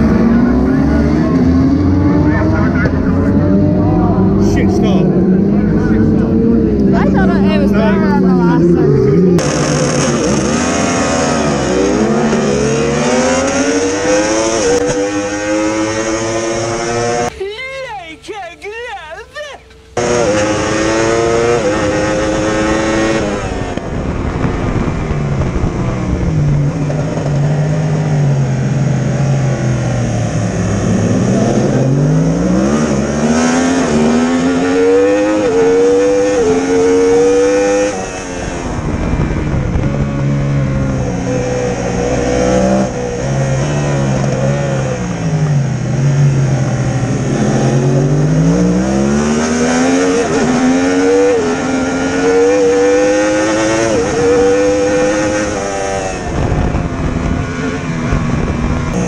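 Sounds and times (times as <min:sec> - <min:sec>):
racing motorcycle engine revving: 0:00.0 - 0:17.3, 0:19.6 - 0:59.0.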